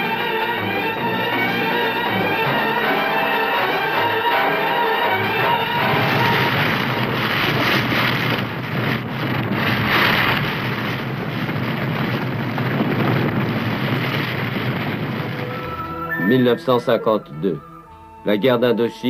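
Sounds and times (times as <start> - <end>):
steady rushing noise: 0.0 - 17.9.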